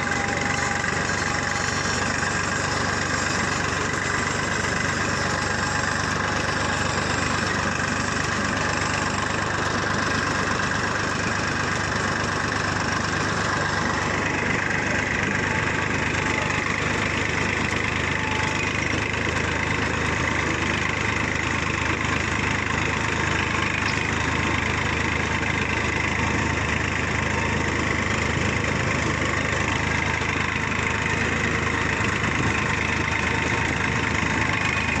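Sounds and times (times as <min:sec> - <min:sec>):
diesel tractor engine running: 0:00.0 - 0:35.0.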